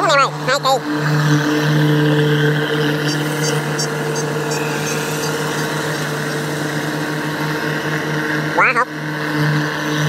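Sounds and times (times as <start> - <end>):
combine harvester engine hum: 0.0 - 10.0.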